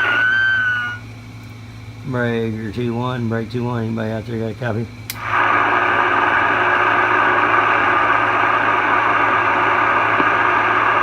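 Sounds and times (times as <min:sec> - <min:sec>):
radio speaker static hiss: 0:00.0 - 0:01.0, 0:02.0 - 0:11.0
low hum: 0:00.0 - 0:03.4, 0:04.8 - 0:11.0.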